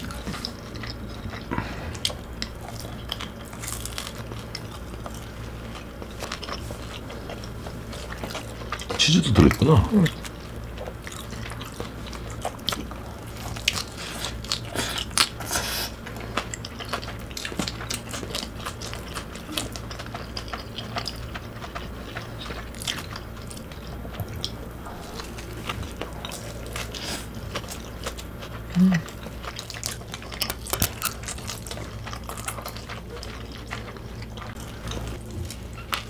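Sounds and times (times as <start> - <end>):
chewing and mouth smacks: 0.0 - 36.0
steady low hum: 0.0 - 36.0.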